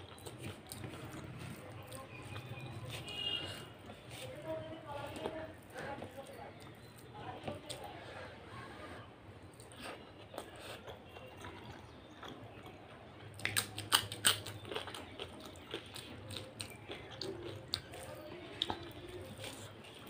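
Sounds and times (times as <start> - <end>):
potato chip crunching: 0.0 - 7.8, 9.6 - 20.0
soft chewing: 0.0 - 20.0.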